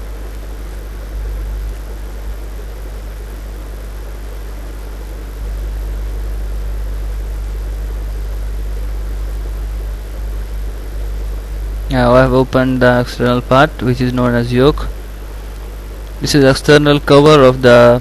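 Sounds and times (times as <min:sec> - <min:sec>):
background hiss: 0:00.0 - 0:18.0
low hum: 0:00.0 - 0:18.0.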